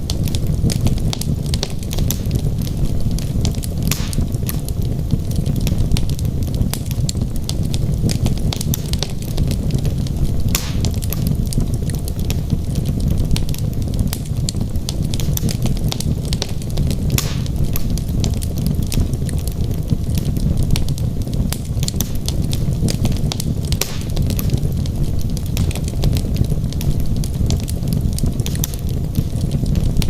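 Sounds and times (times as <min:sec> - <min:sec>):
fire rumbling: 0:00.0 - 0:30.0
wood crackling and popping: 0:00.0 - 0:30.0.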